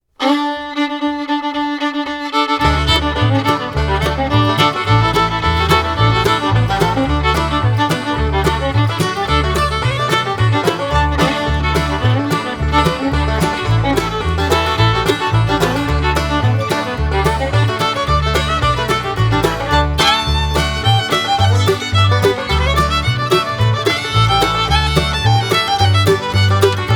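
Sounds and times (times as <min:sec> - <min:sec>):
fiddle lead melody: 0:00.1 - 0:26.9
steady beat and bass line: 0:02.7 - 0:26.9.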